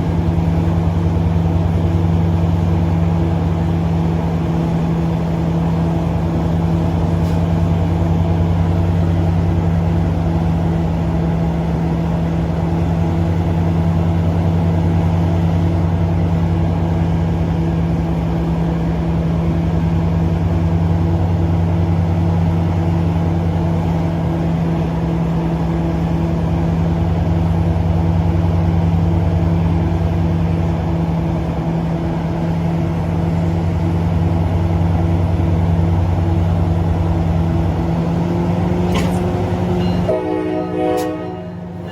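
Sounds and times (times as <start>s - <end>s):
diesel locomotive idling: 0.0s - 41.9s.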